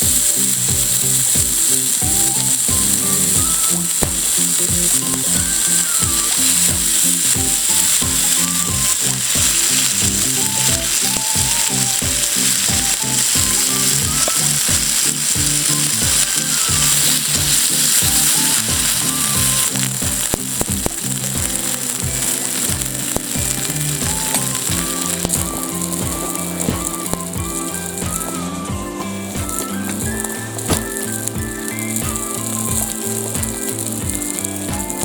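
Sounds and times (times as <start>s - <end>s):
music with steady beat: 0.0s - 35.0s
sizzling hiss: 0.0s - 35.0s.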